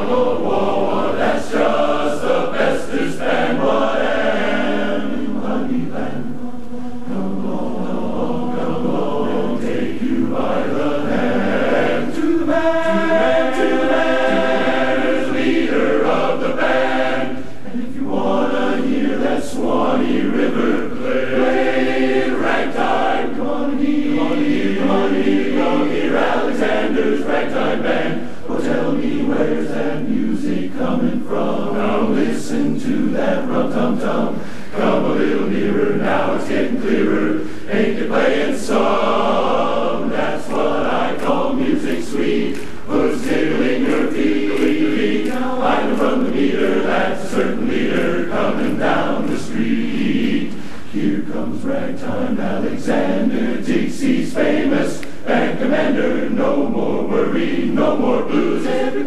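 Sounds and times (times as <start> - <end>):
men's chorus singing in harmony: 0.0 - 59.0.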